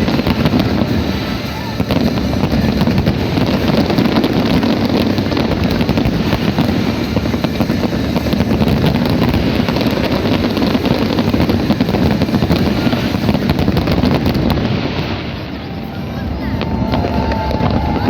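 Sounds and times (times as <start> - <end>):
fireworks crackling and booming: 0.0 - 18.0.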